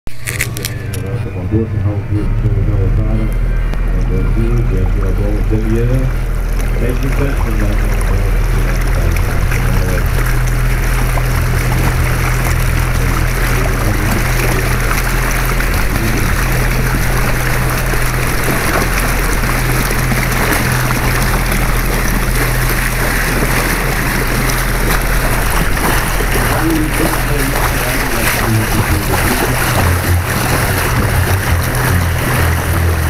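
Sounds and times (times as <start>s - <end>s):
boat motor humming: 0.0s - 33.0s
water rushing along hull: 0.1s - 33.0s.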